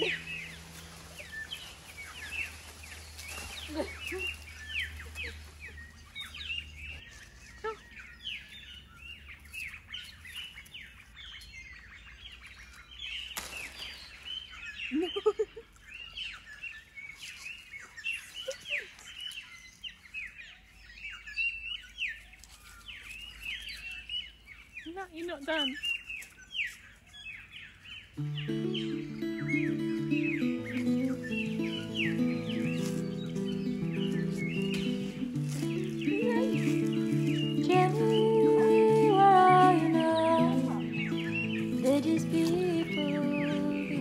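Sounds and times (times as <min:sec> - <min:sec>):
wild birds chirping: 0:00.0 - 0:44.0.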